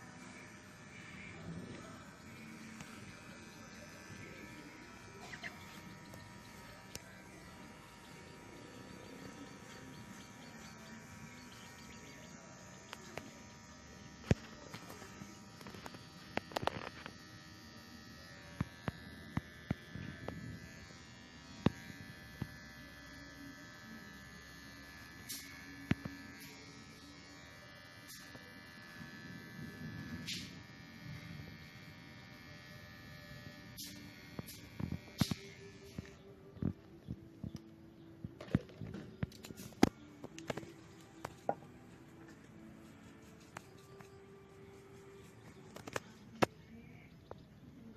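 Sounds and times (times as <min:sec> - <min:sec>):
electric hair clipper buzzing: 0:00.0 - 0:46.6.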